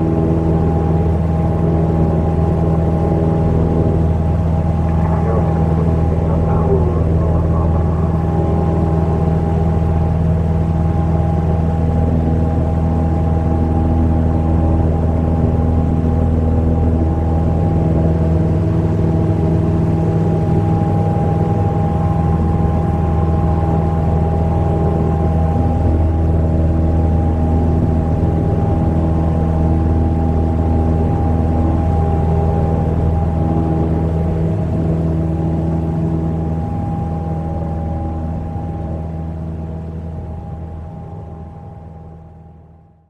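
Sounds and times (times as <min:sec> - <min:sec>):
propeller aircraft engine drone: 0:00.0 - 0:43.0.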